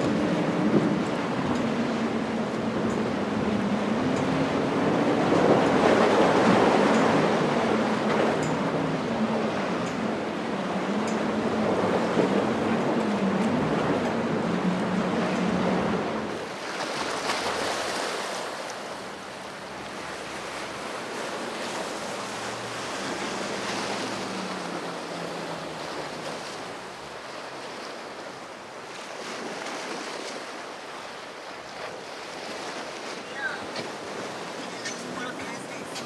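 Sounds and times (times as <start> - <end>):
distant boat engine drone: 0.0 - 36.0
waves washing: 0.0 - 36.0.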